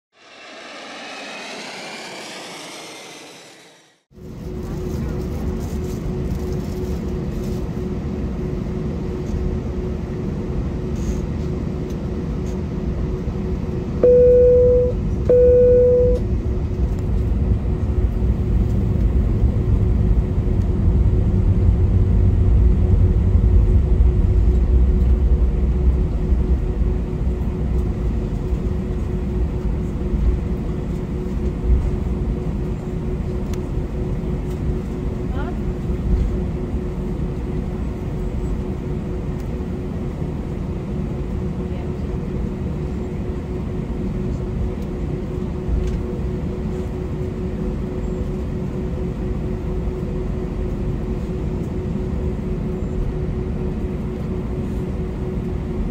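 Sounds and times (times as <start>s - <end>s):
airplane cabin rumble and hum: 0.2s - 55.9s.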